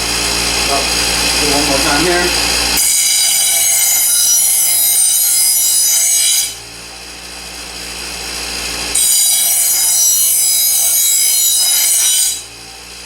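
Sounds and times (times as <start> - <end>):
blade grinding on bench grinder: 0.0 - 6.6, 8.0 - 12.6
bench grinder spinning: 0.0 - 6.7, 7.6 - 13.0.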